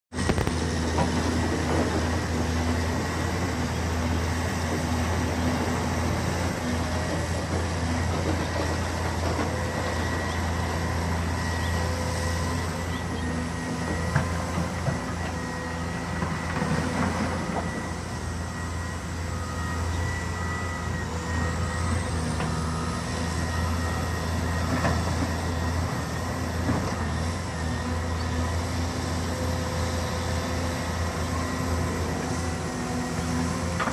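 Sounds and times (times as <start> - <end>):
excavator diesel engine running: 0.1 - 33.9.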